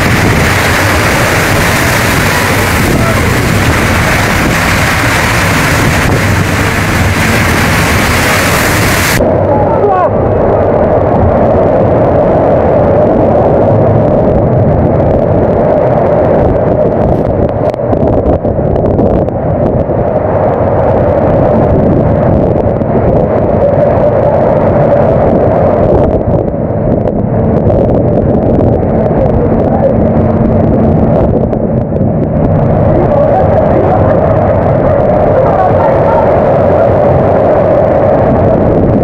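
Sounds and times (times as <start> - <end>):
heavy seas washing across deck: 0.0 - 39.0
storm wind roaring: 0.0 - 39.0.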